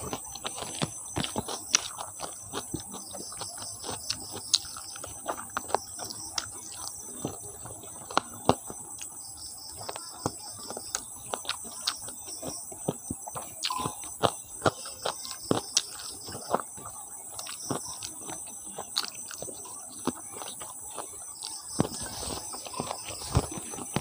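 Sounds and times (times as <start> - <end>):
mouth clicks: 0.0 - 24.0
wet chewing and lip smacking: 0.0 - 24.0.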